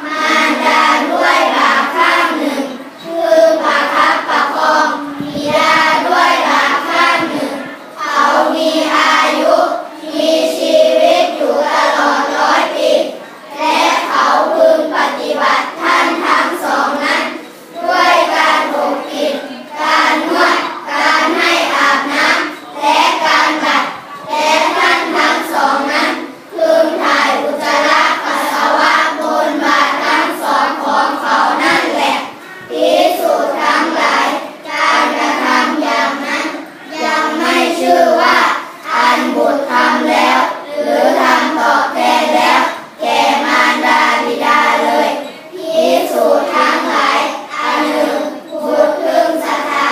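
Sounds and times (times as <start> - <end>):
children chanting in unison: 0.0 - 49.9.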